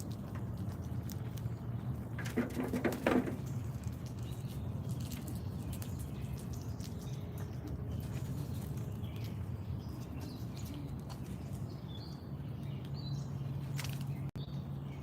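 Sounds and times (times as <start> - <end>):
small songbirds chirping: 0.0 - 15.0
steady low hum: 0.0 - 15.0.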